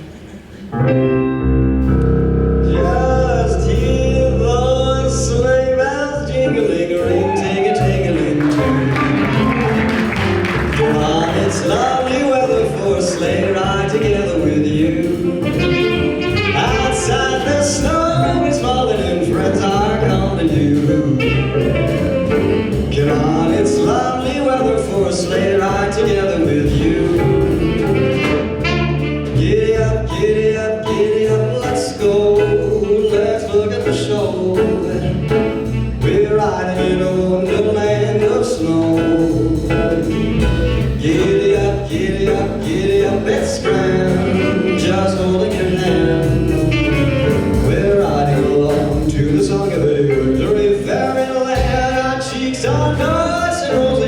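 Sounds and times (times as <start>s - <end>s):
live music with singing: 0.0s - 54.0s.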